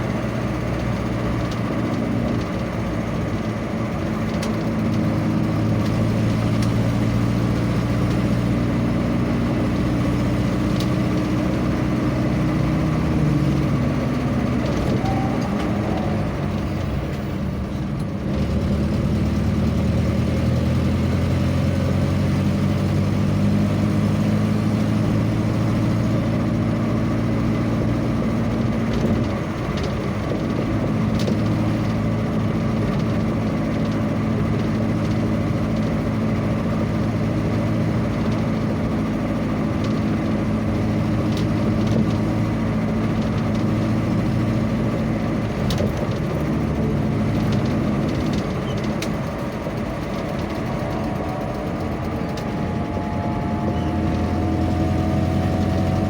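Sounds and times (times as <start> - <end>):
road travel noise: 0.0 - 56.0
vehicle engine running: 0.0 - 56.0.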